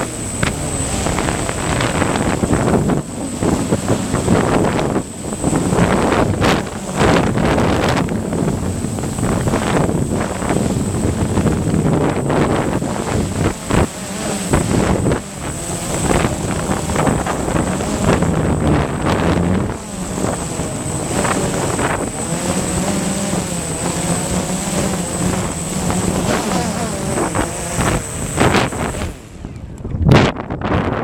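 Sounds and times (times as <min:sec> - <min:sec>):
drone propellers buzzing: 0:00.0 - 0:31.0
wind noise on microphone: 0:00.0 - 0:31.0.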